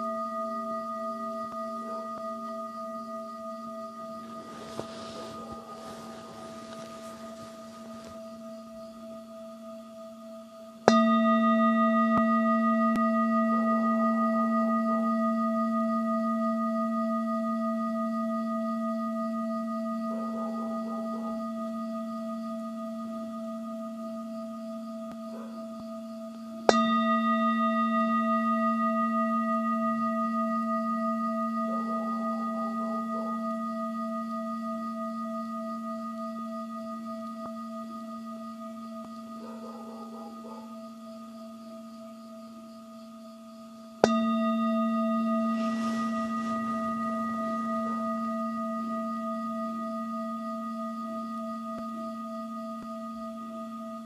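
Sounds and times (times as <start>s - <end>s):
metal singing bowl ringing: 0.0s - 41.6s, 43.6s - 54.0s.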